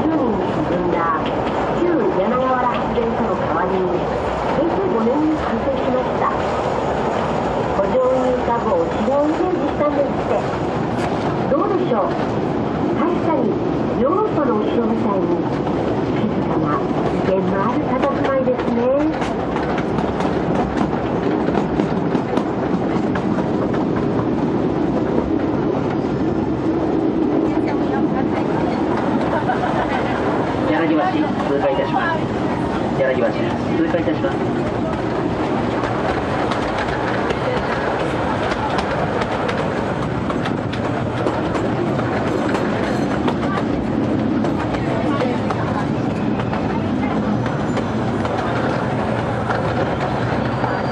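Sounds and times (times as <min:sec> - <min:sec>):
train wheels clattering on rails: 0:00.1 - 0:50.9.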